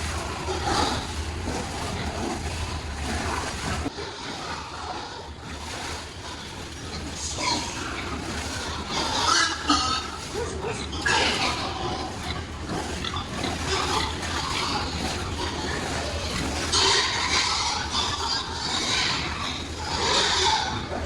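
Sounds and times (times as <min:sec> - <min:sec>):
steady low hum: 0:00.0 - 0:20.0
pigs grunting and squealing: 0:00.0 - 0:21.0.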